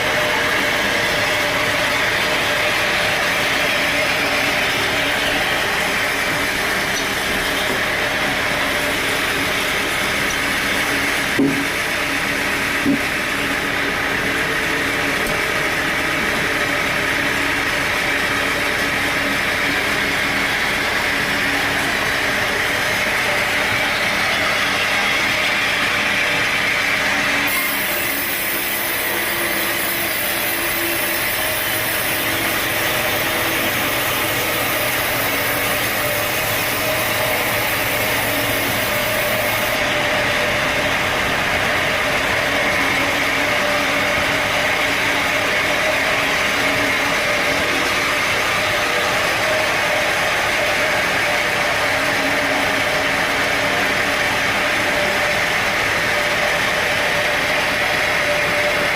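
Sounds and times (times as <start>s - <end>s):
sawmill machinery running: 0.0s - 58.9s.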